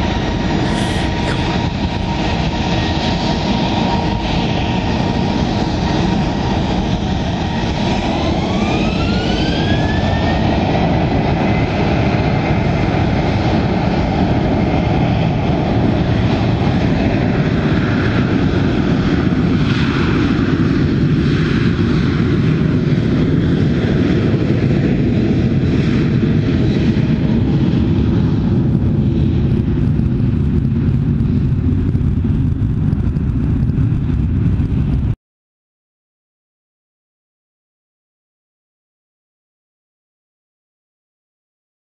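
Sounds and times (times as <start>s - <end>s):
jet engine whine: 0.0s - 35.2s
loud jet engine rumble: 0.0s - 35.2s.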